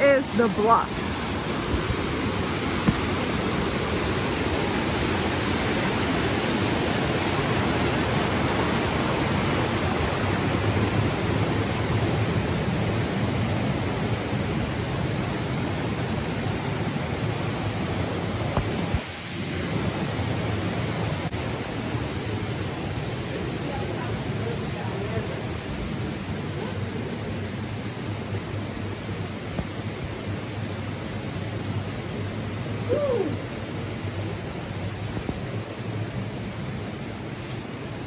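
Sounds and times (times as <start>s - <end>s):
steady rushing noise: 0.0s - 38.0s.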